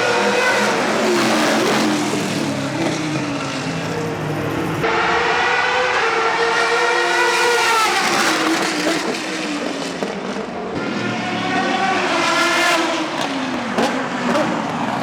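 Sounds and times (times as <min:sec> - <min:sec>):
racing cars passing: 0:00.0 - 0:15.0.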